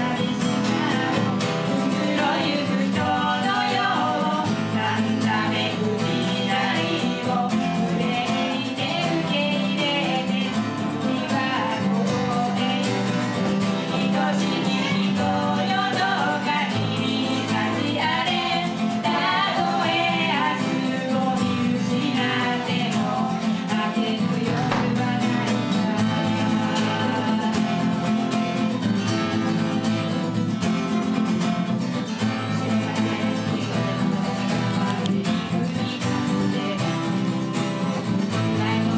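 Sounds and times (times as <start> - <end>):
women singing pop song: 0.0 - 30.0, 31.4 - 38.9
acoustic guitars strummed: 0.0 - 38.9.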